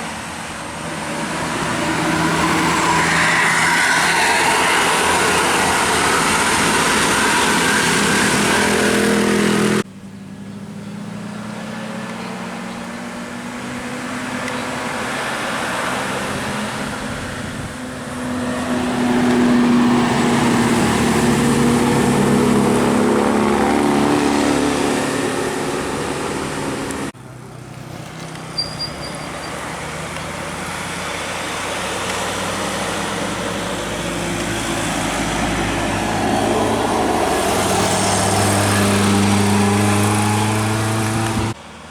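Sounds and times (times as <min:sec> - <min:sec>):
buses and trucks passing: 0:00.0 - 0:41.9
road traffic: 0:00.0 - 0:41.9.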